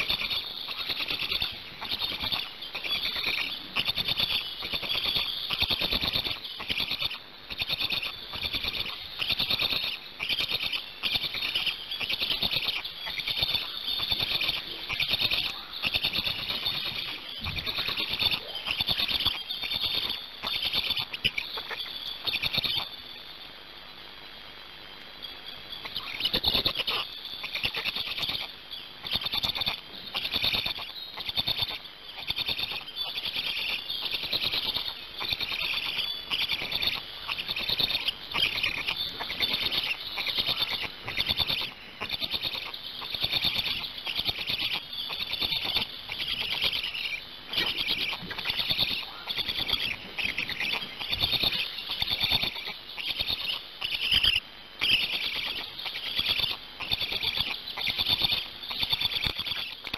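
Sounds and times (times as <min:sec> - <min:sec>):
stork chicks begging calls: 0:00.0 - 0:23.0, 0:25.7 - 0:59.9.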